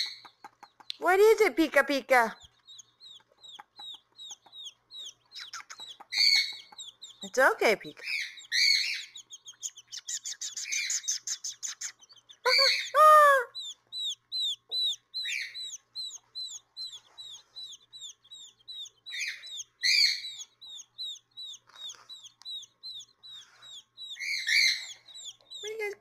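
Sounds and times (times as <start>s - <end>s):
quail chicks peeping: 0.0s - 26.0s.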